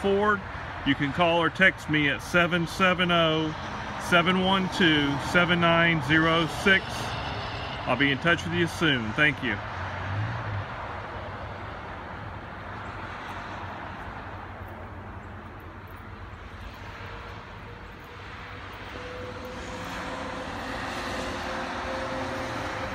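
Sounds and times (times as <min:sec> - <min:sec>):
vehicle rumble with hiss: 0:00.0 - 0:22.9.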